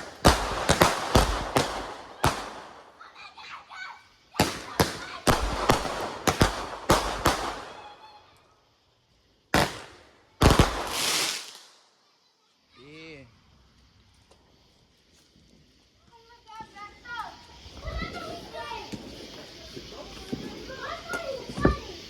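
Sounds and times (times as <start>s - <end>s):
fireworks bangs: 0.0s - 12.1s, 13.4s - 22.0s
fireworks crackling hiss: 0.0s - 22.0s.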